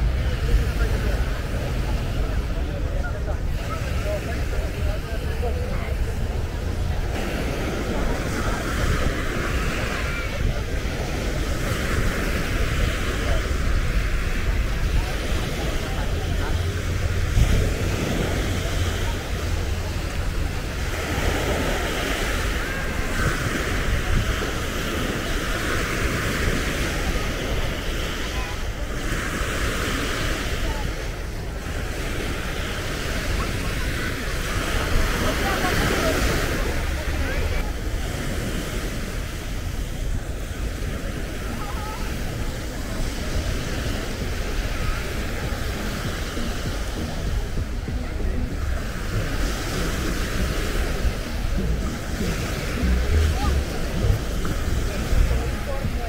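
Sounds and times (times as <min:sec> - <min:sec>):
waves washing onto beach: 0:00.0 - 0:56.0
wind buffeting microphone: 0:00.0 - 0:56.0.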